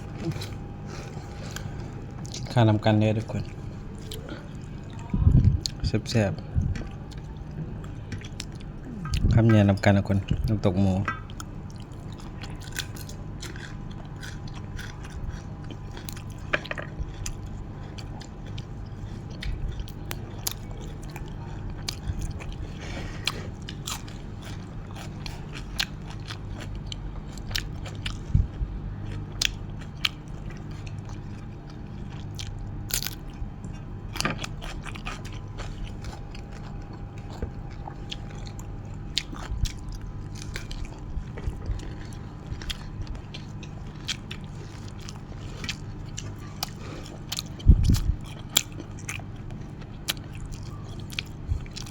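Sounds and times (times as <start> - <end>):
low steady hum: 0.0 - 51.9
person chewing food: 0.0 - 51.9.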